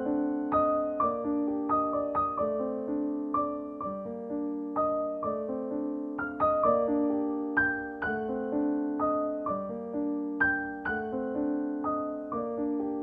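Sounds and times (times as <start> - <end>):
calm piano music: 0.0 - 13.0.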